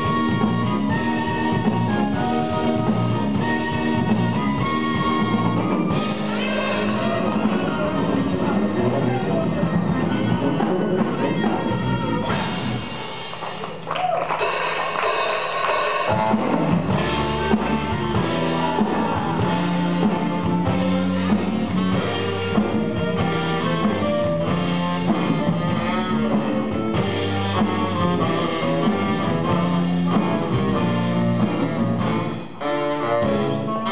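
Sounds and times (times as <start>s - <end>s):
clarinet melody: 0.0s - 12.2s, 16.1s - 33.9s
electric guitar: 0.0s - 15.1s, 16.0s - 33.9s
drum kit: 0.0s - 33.9s.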